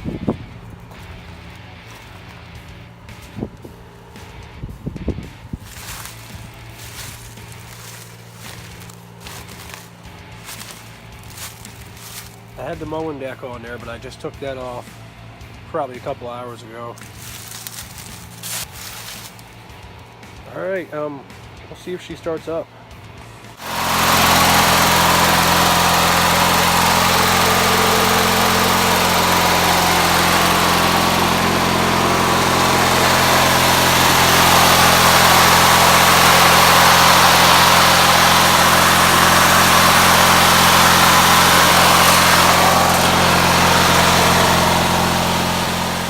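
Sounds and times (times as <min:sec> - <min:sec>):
mower engine running: 0:00.0 - 0:46.0.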